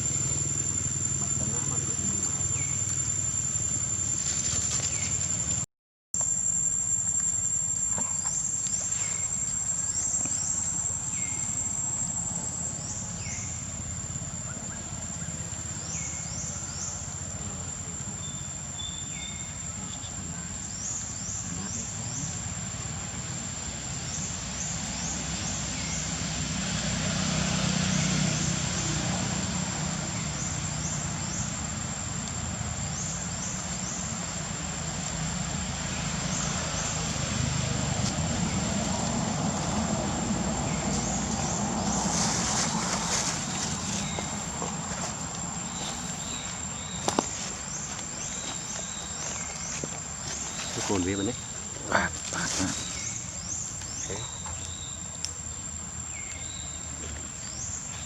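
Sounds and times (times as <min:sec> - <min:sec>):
high-pitched insect drone: 0:00.0 - 0:05.6, 0:06.2 - 0:58.0.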